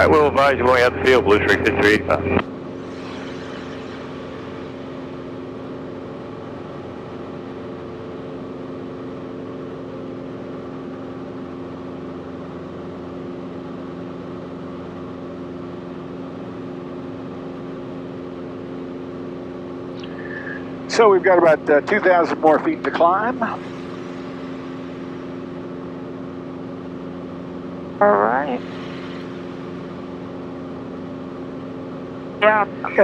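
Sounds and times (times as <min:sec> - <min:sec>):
airplane engine droning in cabin: 0:00.0 - 0:33.0.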